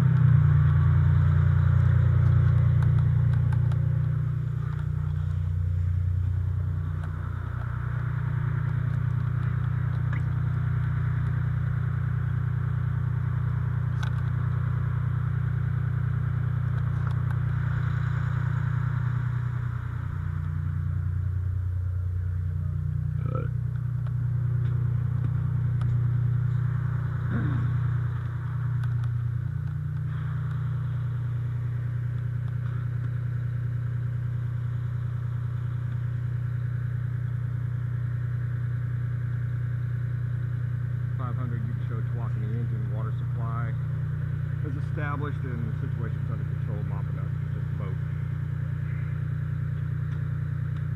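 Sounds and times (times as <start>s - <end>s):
fire engine engine running: 0.0s - 50.9s.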